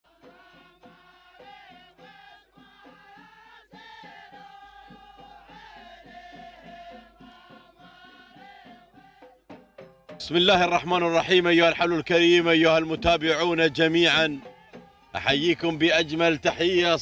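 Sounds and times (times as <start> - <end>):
chant-like singing: 0.1 - 17.0.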